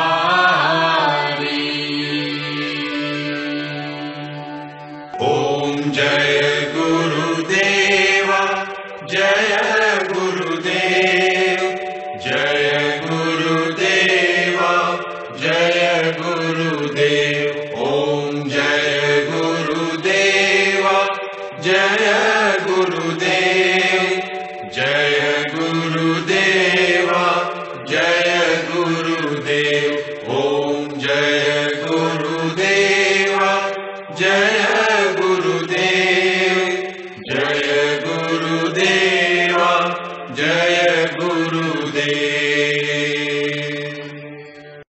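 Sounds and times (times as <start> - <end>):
devotional chanting: 0.0 - 44.9.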